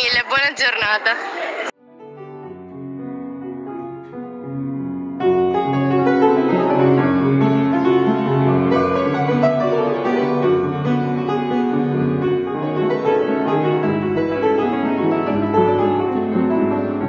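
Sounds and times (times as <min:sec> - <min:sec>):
upright piano playing: 0:01.8 - 0:17.0.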